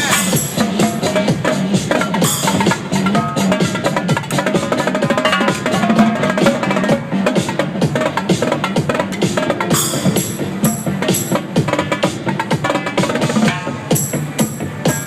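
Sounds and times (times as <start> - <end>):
electronic dance track: 0.0 - 15.0
sharp drum strokes: 0.0 - 15.0.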